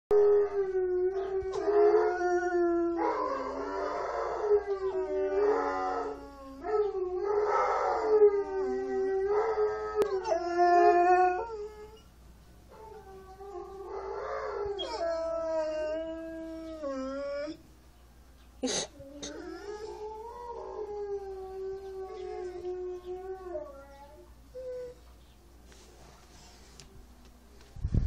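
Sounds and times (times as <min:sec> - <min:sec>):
dog howling: 0:00.1 - 0:12.0, 0:12.7 - 0:17.6, 0:19.0 - 0:25.1.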